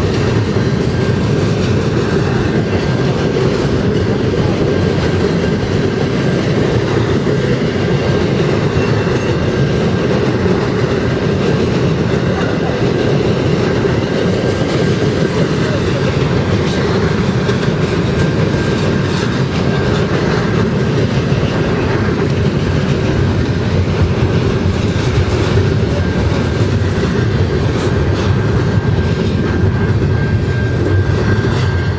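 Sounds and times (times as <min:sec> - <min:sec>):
freight train wheels rumbling: 0:00.0 - 0:31.9.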